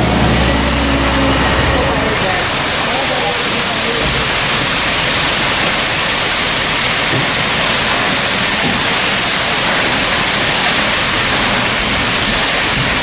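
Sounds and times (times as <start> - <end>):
concrete plant rushing noise: 0.0 - 13.0.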